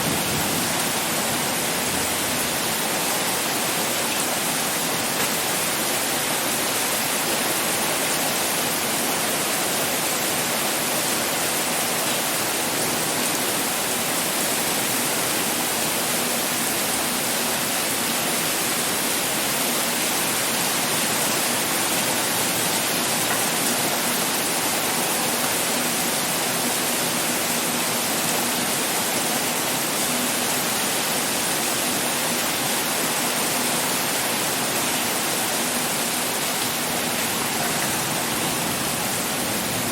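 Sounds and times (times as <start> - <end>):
heavy pouring rain: 0.0 - 39.9.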